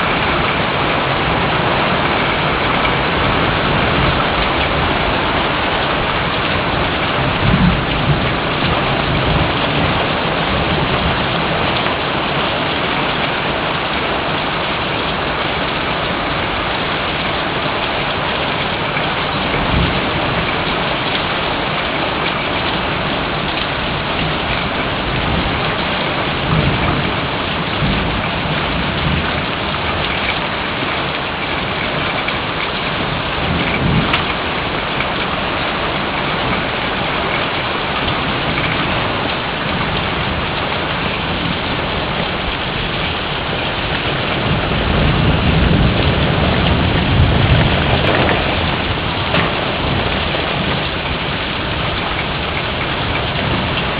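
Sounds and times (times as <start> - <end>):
heavy rain falling: 0.0 - 53.9
low rumble of thunder: 0.0 - 53.9.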